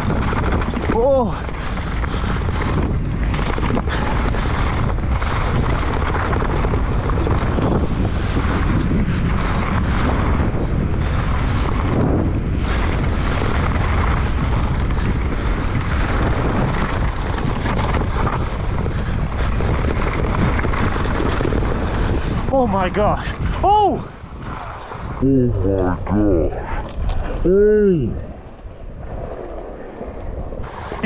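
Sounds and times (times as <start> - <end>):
bike rattling: 0.0 - 25.2, 30.6 - 31.0
wind rushing over microphone: 0.0 - 31.0.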